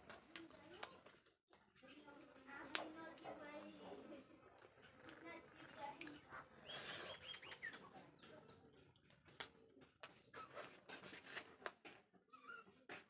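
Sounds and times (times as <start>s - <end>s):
mouth clicks and chewing smacks: 2.4s - 13.0s.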